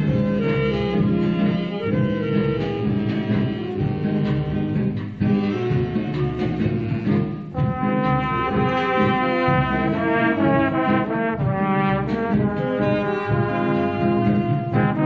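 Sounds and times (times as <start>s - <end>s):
trombone melody: 0.0s - 4.4s, 5.3s - 15.0s
big band playing: 0.0s - 15.0s.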